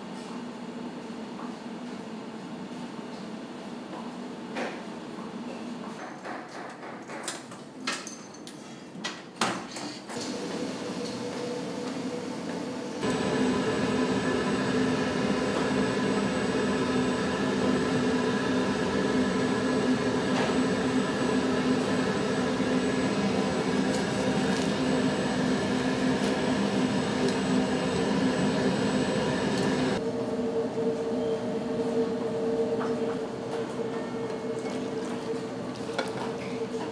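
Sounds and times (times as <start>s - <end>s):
steady mechanical hum: 0.0s - 36.9s.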